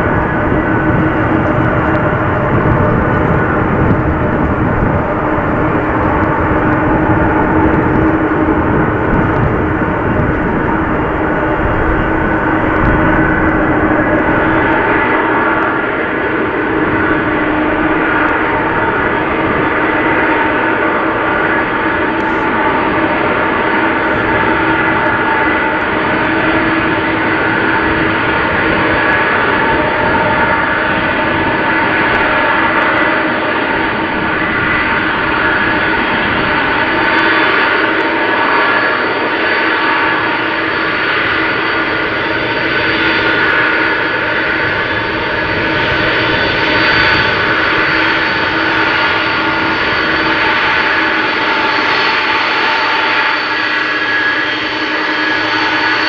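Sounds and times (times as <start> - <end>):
constant rushing noise: 0.0 - 56.0
jet engines whining: 0.0 - 56.0.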